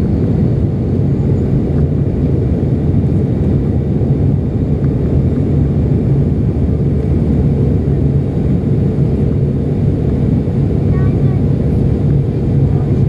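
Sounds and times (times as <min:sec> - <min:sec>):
turboprop engine drone: 0:00.0 - 0:13.0.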